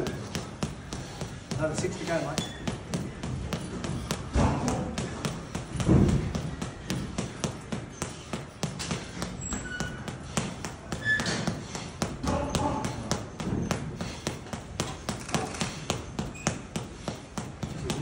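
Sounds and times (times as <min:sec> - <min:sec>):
gloves striking punching bag: 0:00.0 - 0:18.0.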